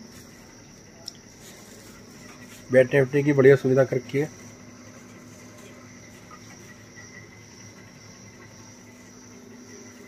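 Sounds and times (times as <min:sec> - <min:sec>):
faint low hum: 0:00.0 - 0:10.0
insects chirring: 0:00.0 - 0:10.0.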